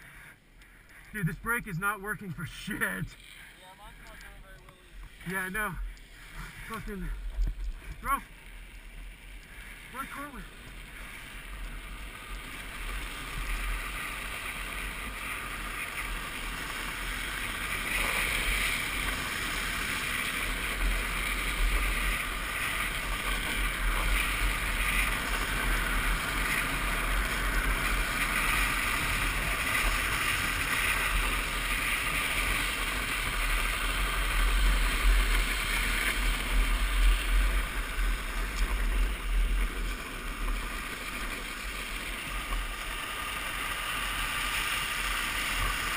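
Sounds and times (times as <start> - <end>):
plastic wheels scraping on asphalt: 2.5 - 45.9.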